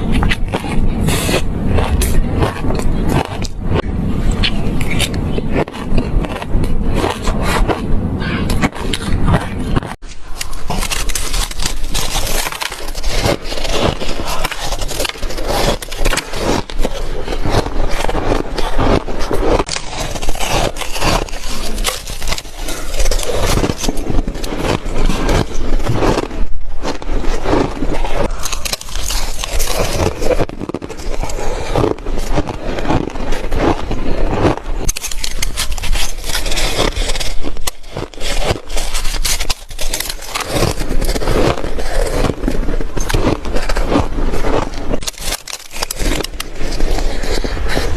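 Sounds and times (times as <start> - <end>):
chewing crunchy ice: 0.0 - 47.9.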